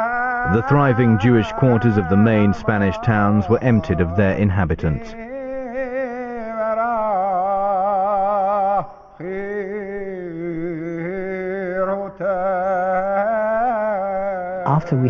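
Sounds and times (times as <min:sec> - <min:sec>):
person singing chant-like melody: 0:00.0 - 0:15.0.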